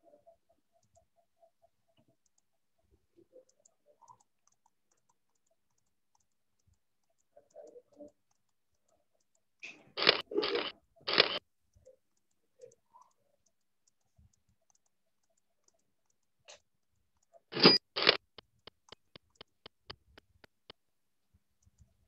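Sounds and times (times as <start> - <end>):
faint clicking: 0.0 - 22.0.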